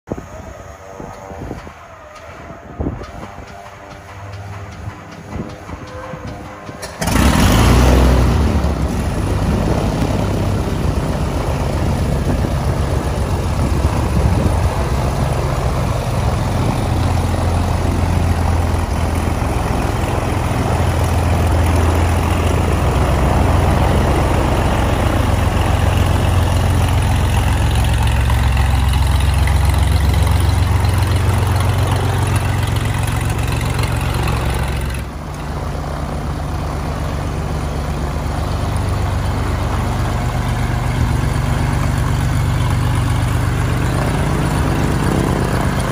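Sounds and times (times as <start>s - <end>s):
aircraft engine starting and running: 0.0s - 45.9s
propeller turning: 0.1s - 45.9s.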